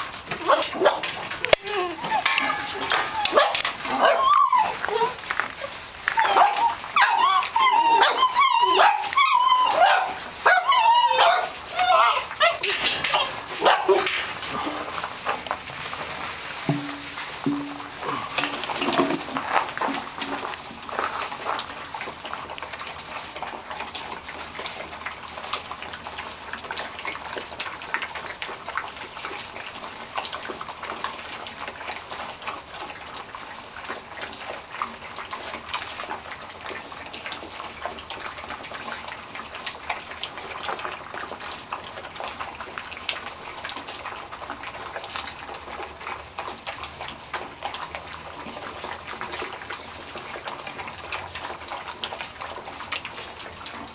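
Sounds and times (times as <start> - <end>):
puppies crunching dry kibble: 0.0 - 53.9.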